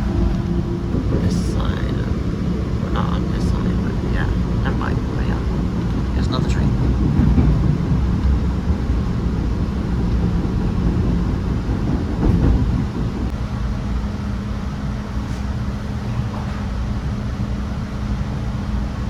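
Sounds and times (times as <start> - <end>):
constant hum: 0.0 - 19.0
subway wheels rumbling on rail: 0.0 - 19.0.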